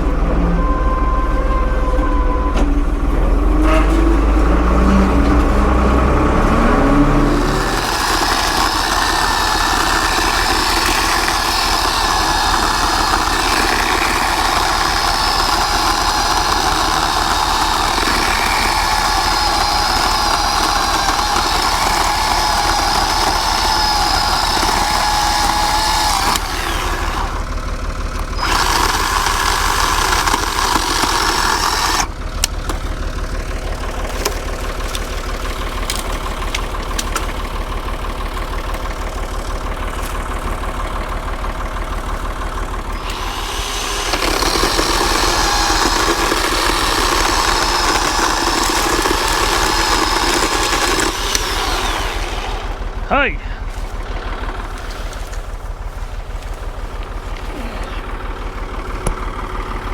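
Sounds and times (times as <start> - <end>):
electric chainsaw cutting wood: 3.4 - 55.5.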